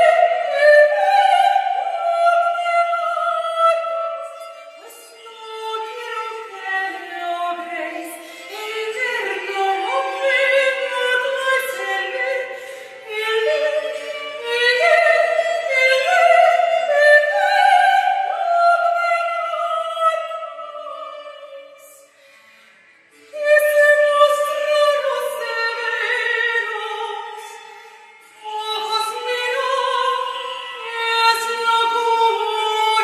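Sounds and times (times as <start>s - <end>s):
woman singing operatic song: 0.0s - 22.1s, 23.3s - 27.6s, 28.4s - 33.0s.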